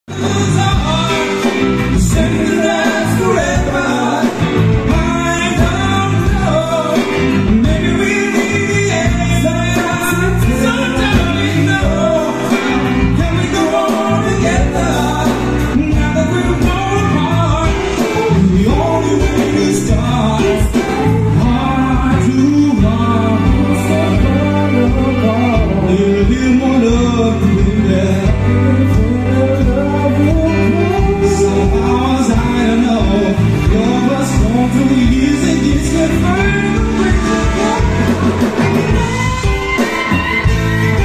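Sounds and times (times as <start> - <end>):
live band playing: 0.0 - 41.0
person singing: 0.0 - 41.0.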